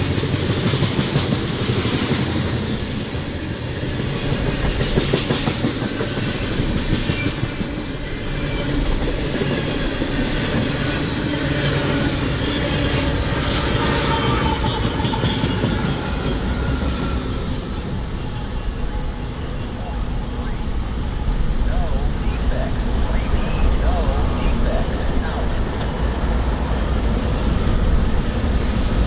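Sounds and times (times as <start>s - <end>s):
freight train cars rolling: 0.0s - 29.0s.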